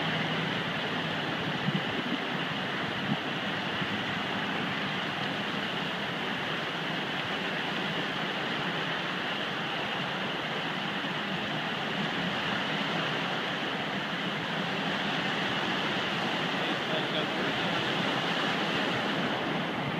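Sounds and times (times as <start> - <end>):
floodwater rushing: 0.0 - 19.9
truck wheels churning water: 0.0 - 19.9.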